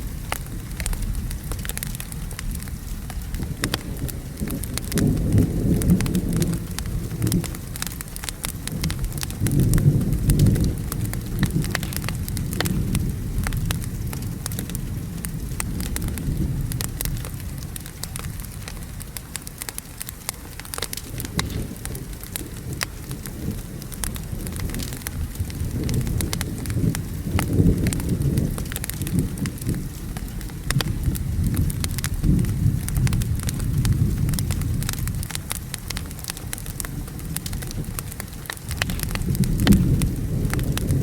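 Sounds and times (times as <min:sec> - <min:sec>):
low rolling thunder: 0:00.0 - 0:19.1, 0:20.7 - 0:41.0
steady rain: 0:00.0 - 0:41.0
wood fire crackling with pops: 0:00.0 - 0:41.0.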